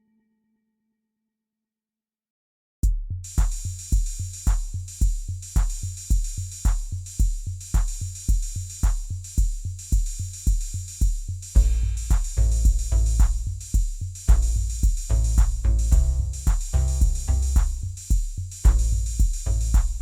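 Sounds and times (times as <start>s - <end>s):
deep kick drum: 2.8s - 20.0s
hi-hat shimmer: 3.3s - 20.0s.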